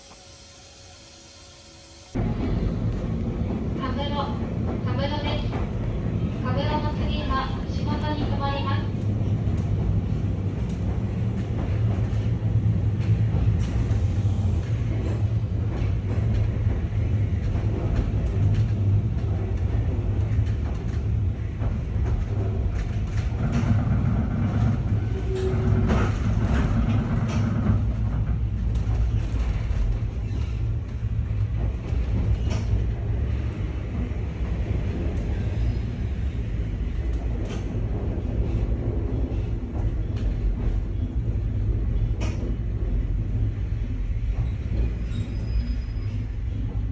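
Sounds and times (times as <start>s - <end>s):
train interior rumble: 0.0s - 46.9s.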